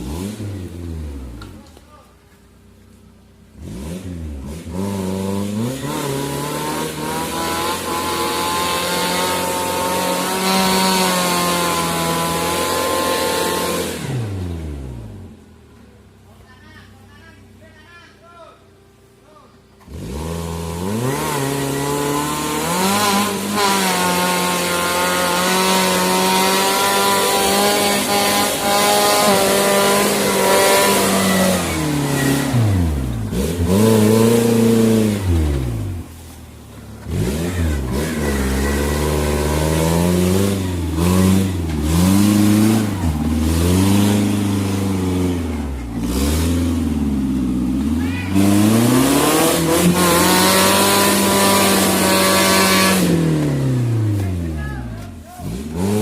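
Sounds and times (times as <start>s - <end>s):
car engine revving: 0.0s - 2.0s, 2.6s - 16.3s, 19.6s - 56.0s.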